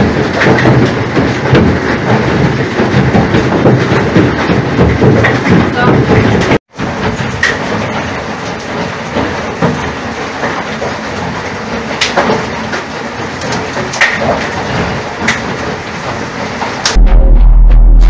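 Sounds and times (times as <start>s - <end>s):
hail and rain falling: 0.0s - 16.9s
hailstones striking nearby: 0.0s - 16.9s.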